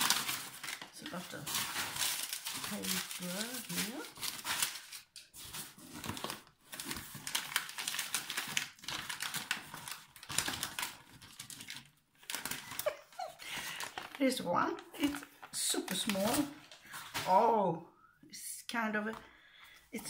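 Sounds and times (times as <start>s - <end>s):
packing paper rustling: 0.0s - 17.4s.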